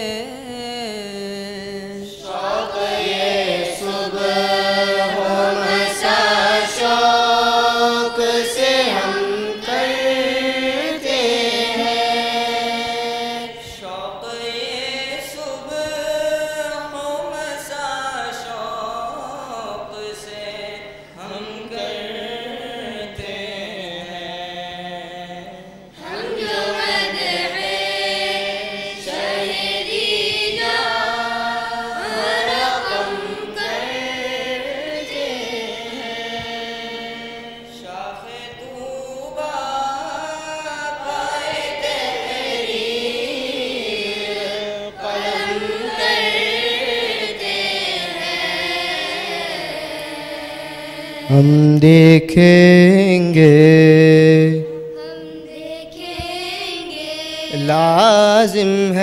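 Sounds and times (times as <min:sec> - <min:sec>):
group singing without instruments: 0:00.0 - 0:59.0.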